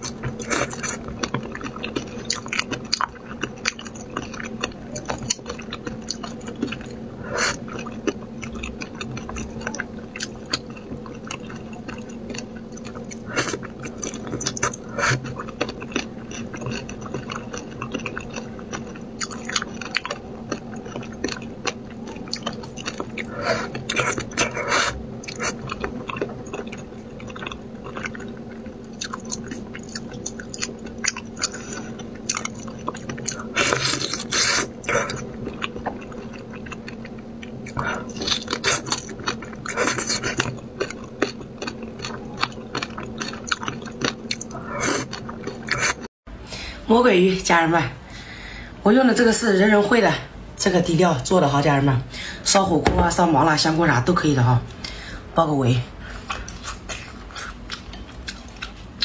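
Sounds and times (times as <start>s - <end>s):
chewing: 0.0s - 46.1s, 56.0s - 59.0s.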